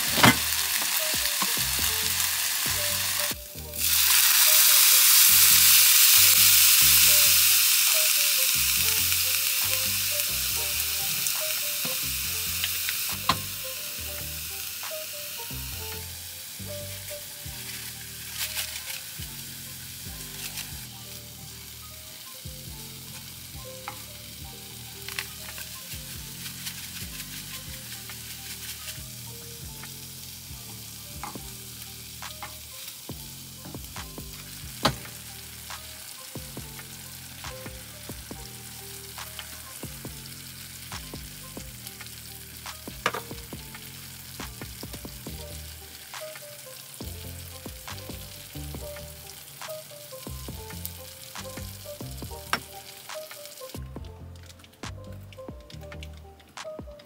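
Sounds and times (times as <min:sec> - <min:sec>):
meat sizzling in a skillet: 0:00.0 - 0:53.9.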